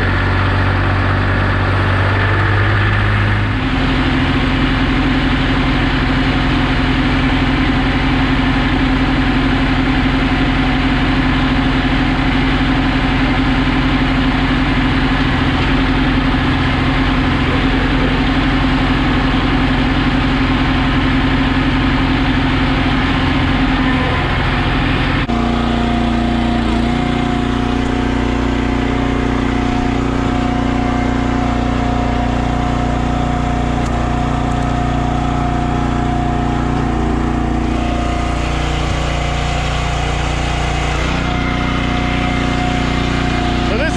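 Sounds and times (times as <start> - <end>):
gas engine running: 0.0 - 43.9.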